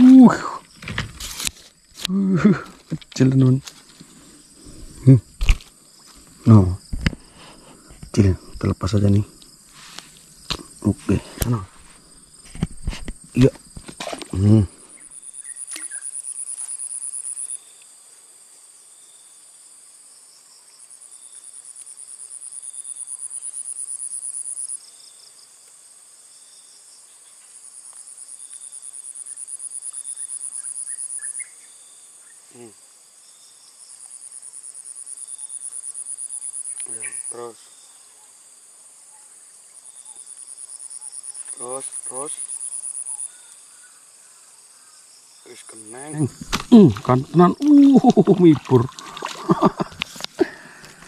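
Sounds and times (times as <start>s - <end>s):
insect trilling: 0.0s - 17.9s, 21.2s - 25.0s, 27.8s - 51.0s.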